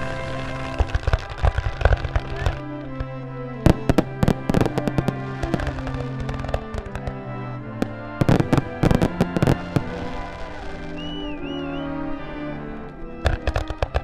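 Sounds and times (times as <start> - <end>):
firework shells bursting: 0.0 - 11.6, 13.2 - 14.0
background music with held tones: 0.0 - 14.0.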